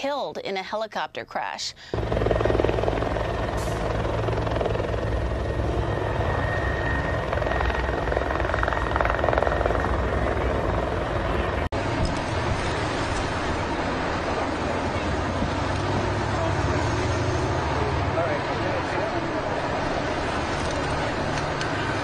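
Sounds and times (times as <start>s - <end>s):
helicopter rotor chopping: 1.9s - 22.0s.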